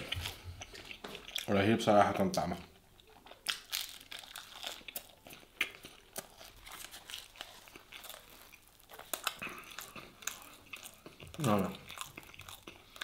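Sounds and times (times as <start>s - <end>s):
bread crackling: 0.0s - 13.0s
chewing crusty bread: 0.0s - 13.0s.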